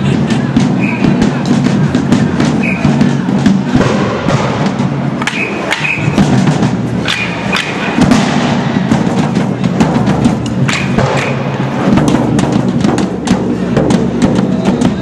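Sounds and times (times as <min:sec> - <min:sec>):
band music with drums: 0:00.0 - 0:15.0
sharp percussive hits: 0:00.0 - 0:15.0.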